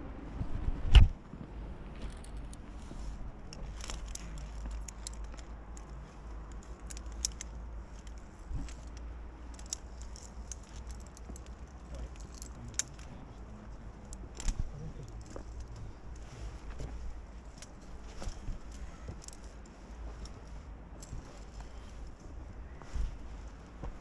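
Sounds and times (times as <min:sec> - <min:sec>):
metallic clicks of climbing gear: 0:02.0 - 0:22.8.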